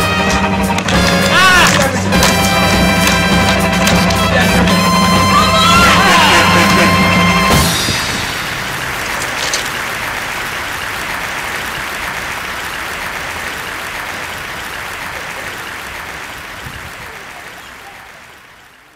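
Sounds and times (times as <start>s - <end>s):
crowd applauding: 0.0s - 18.9s.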